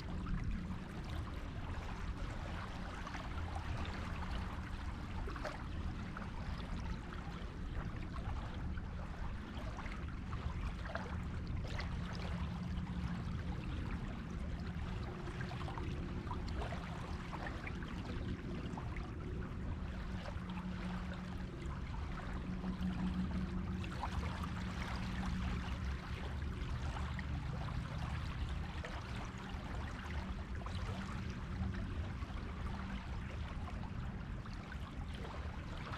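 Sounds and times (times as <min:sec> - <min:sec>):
low hum: 0:00.0 - 0:35.9.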